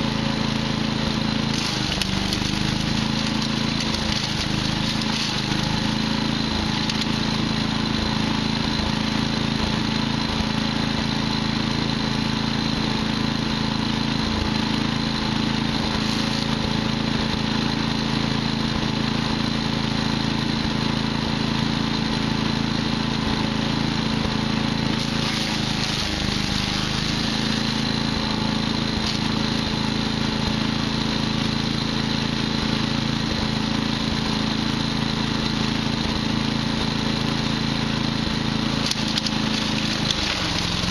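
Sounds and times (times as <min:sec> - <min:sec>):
wood chipper engine running: 0:00.0 - 0:40.9.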